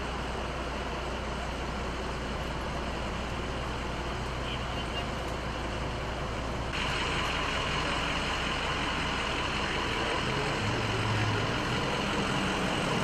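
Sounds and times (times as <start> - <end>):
low engine hum: 0.0 - 13.0
vehicle engines running: 0.0 - 13.0.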